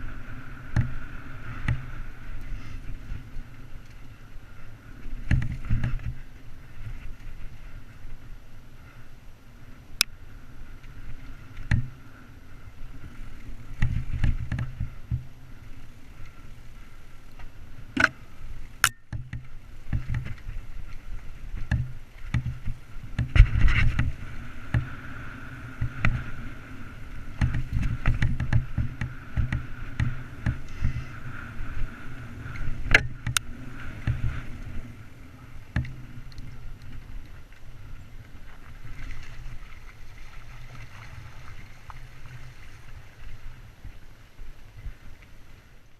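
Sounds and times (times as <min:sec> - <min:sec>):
bike tyres rumbling over rough trail: 0:00.0 - 0:45.9.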